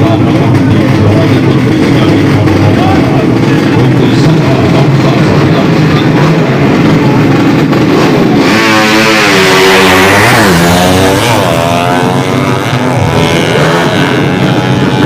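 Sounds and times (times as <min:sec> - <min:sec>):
motorcycle engines running hard: 0:00.0 - 0:15.0.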